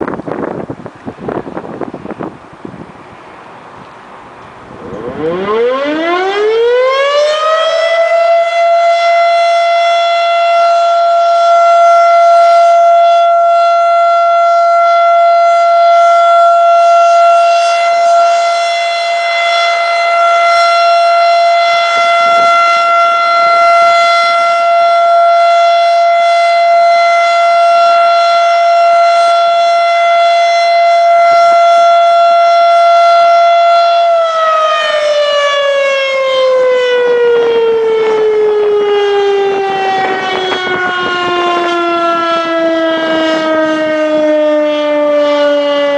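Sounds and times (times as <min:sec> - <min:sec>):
outdoor warning siren: 0:00.0 - 0:45.9.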